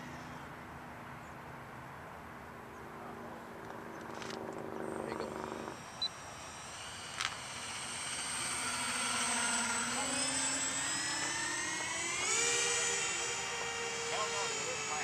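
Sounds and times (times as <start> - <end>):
model airplane engines whining: 2.4 - 15.0.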